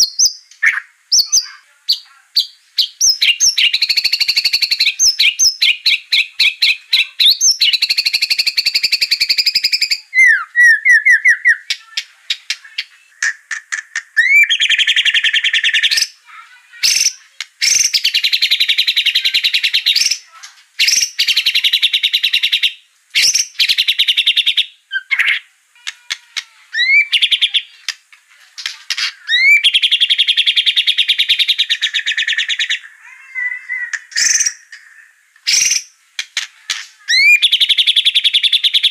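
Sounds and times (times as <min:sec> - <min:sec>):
bird singing trills and whistles: 0:00.0 - 0:11.8, 0:12.4 - 0:16.2, 0:16.8 - 0:25.5, 0:26.7 - 0:27.8, 0:29.0 - 0:34.7, 0:35.5 - 0:35.9, 0:36.7 - 0:38.9.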